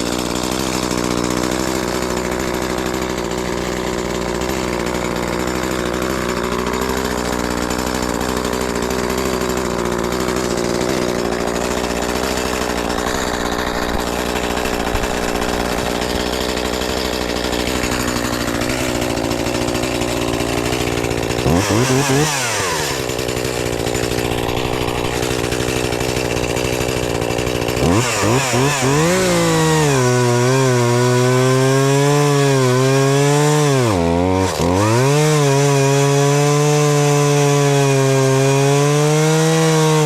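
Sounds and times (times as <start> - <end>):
chainsaw engine running and revving: 0.0 - 40.0.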